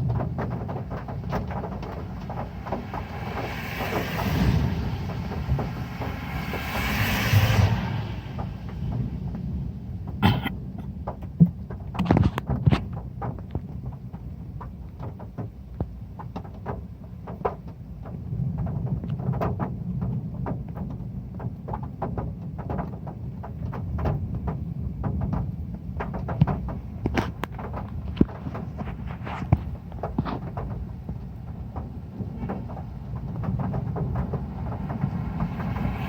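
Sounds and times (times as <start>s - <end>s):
rain on a metal roof: 0.0s - 36.0s.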